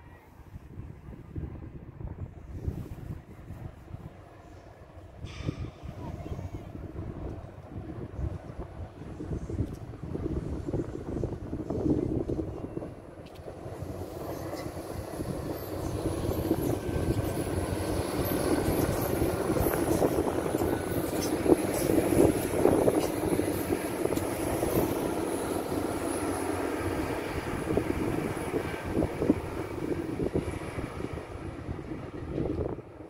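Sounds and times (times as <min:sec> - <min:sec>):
diesel train engine drone: 0:00.0 - 0:33.0
wheels rumbling on rails: 0:00.7 - 0:33.0.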